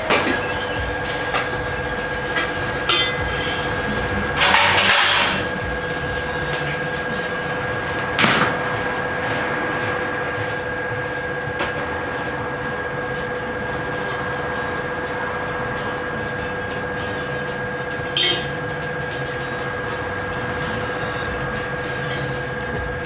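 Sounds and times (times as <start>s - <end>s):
mechanical running noise with whine: 0.0s - 23.0s.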